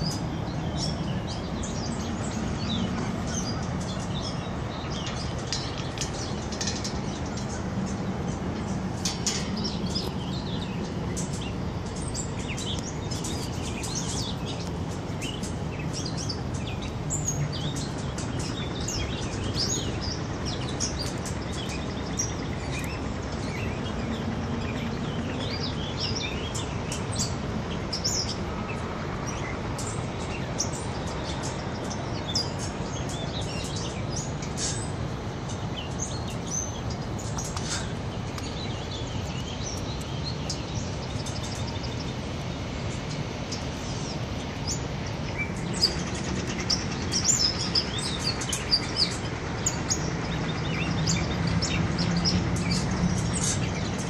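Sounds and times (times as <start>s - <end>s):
small songbirds chirping: 0.0s - 54.0s
steady low rumble: 0.0s - 54.0s.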